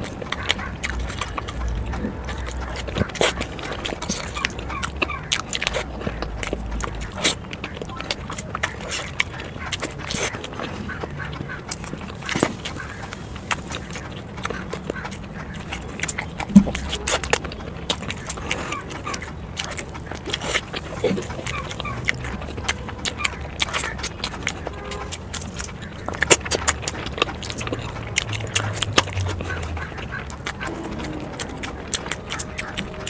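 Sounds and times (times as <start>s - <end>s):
mouth clicks and smacks: 0.0s - 33.0s
person chewing close up: 0.0s - 33.0s.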